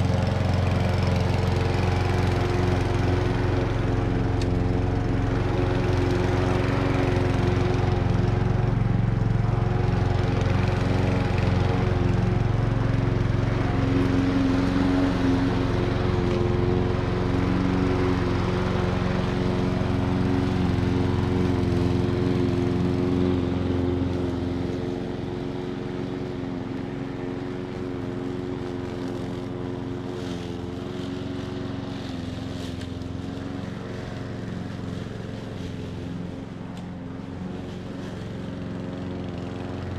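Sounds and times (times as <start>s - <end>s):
lawn mower cutting grass: 0.0s - 39.9s.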